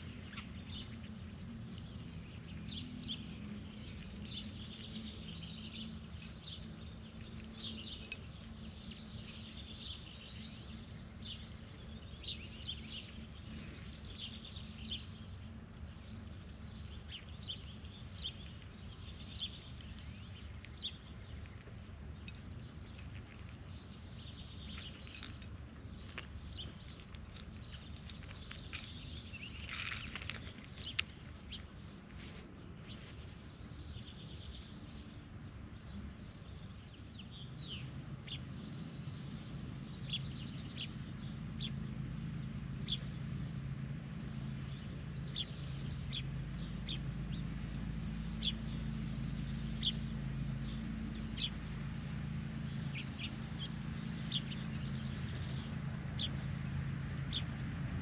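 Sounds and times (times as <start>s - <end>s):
steady low hum: 0.0s - 58.0s
wild birds chirping: 0.0s - 58.0s.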